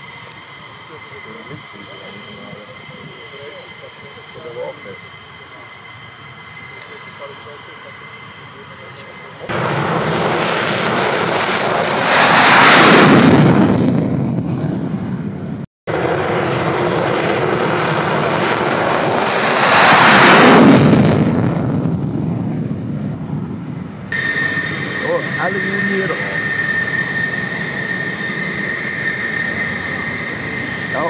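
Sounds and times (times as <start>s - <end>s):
fighter jet roar on take-off: 0.0s - 31.0s
jet afterburner roar: 0.0s - 31.0s.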